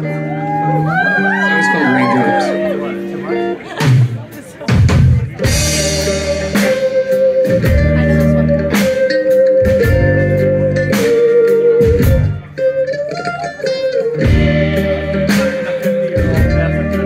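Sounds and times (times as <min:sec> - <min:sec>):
held electric guitar lead note: 0:00.0 - 0:03.6, 0:05.4 - 0:17.0
live rock band playing: 0:00.0 - 0:17.0.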